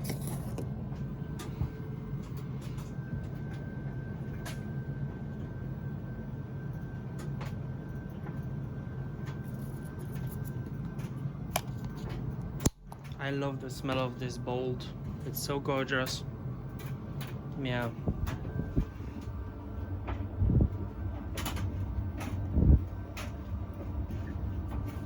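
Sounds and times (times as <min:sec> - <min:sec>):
tumble dryer humming: 0:00.0 - 0:25.0.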